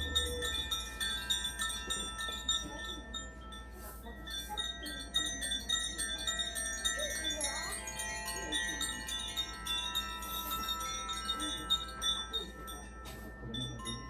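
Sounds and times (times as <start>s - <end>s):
chimes ringing: 0.0s - 14.0s
quiet audience talking: 0.0s - 14.0s.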